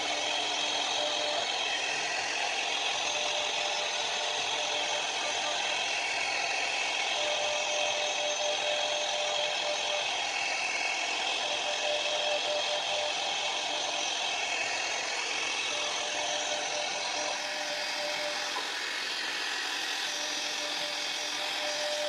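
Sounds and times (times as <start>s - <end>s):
router spindle cutting plywood: 0.0s - 22.0s.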